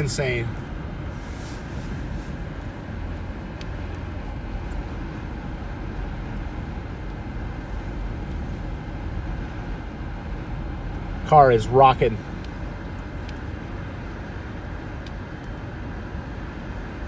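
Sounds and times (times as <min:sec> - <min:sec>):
blizzard wind buffeting a car: 0:00.0 - 0:17.0.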